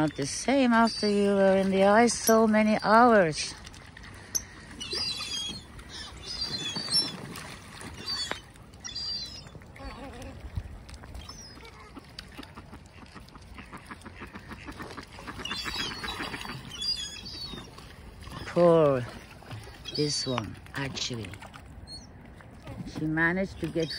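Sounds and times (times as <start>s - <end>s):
waterbirds calling: 0.0s - 23.9s.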